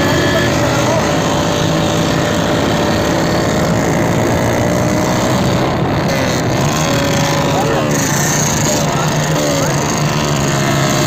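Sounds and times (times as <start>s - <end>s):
motorcycle engines running: 0.0s - 11.0s
road and wind noise: 0.0s - 11.0s.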